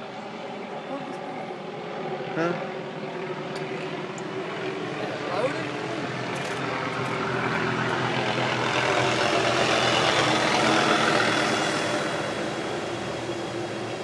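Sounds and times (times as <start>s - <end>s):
helicopter flying overhead: 0.0s - 14.0s.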